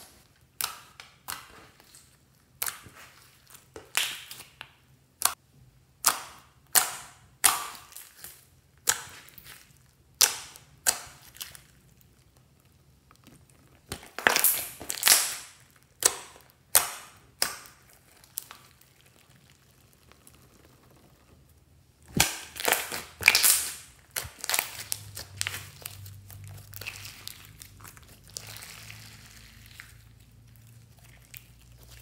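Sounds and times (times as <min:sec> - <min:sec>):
slime squelching and crackling: 0:00.0 - 0:05.4, 0:06.0 - 0:32.0.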